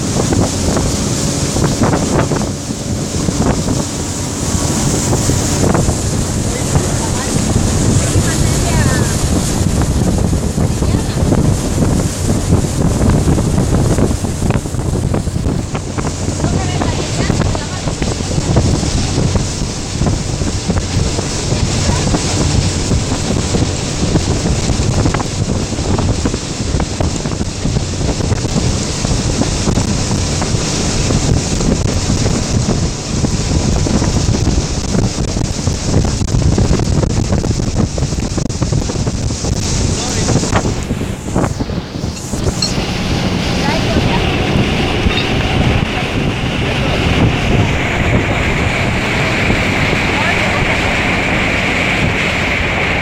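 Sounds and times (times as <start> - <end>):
boat noise: 0.0 - 53.0
water rushing: 0.0 - 53.0
water splashes: 0.0 - 53.0
wind buffeting microphone: 0.0 - 53.0.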